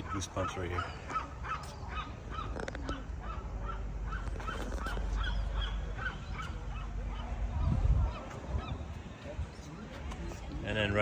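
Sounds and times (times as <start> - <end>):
low rumble of wind or crowd: 0.0 - 11.0.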